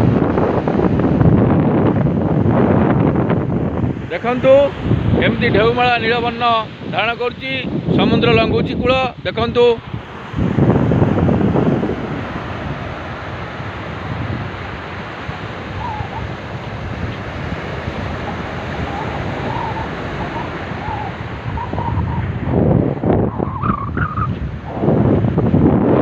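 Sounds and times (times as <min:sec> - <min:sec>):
surf washing on sand: 0:00.0 - 0:26.0
wind buffeting microphone: 0:00.0 - 0:26.0.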